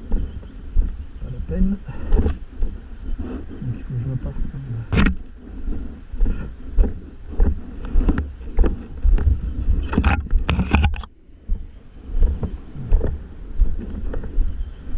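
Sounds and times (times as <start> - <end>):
off-road vehicle rumbling: 0.0 - 14.9
wind on microphone: 0.0 - 14.9.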